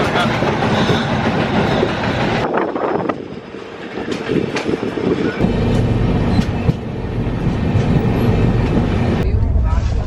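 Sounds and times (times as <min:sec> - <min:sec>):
train rumbling and rattling on rails: 0:00.0 - 0:10.0.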